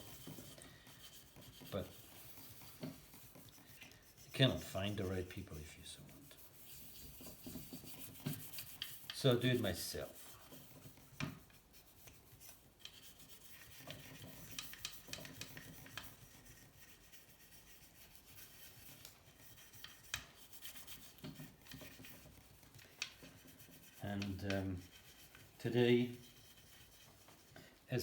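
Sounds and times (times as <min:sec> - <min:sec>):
faint rubbing and scraping: 0:00.0 - 0:28.0.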